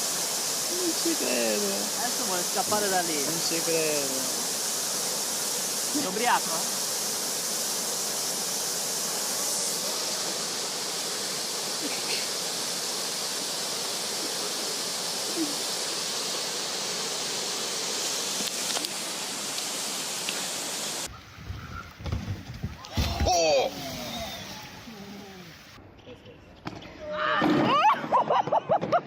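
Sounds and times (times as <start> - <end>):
running water rushing: 0.0 - 21.2, 22.6 - 25.8.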